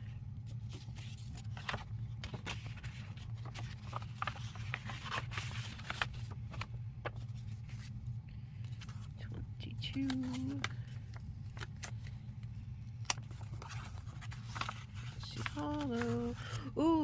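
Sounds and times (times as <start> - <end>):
low hum: 0.0 - 17.0
packaging rustling and crinkling: 0.5 - 7.9, 9.8 - 16.6.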